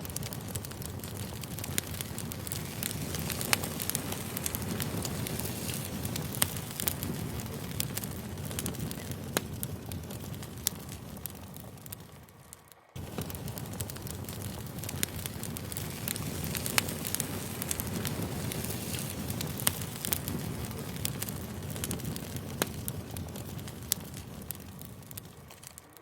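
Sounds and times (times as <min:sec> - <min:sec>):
low rumble of flames: 0:00.0 - 0:26.0
wood crackling and popping: 0:00.0 - 0:26.0.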